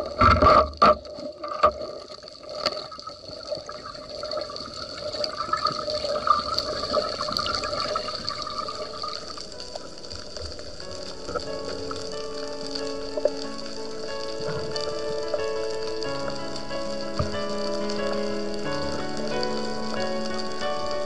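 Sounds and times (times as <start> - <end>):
water gurgling and sloshing: 0.0 - 21.0.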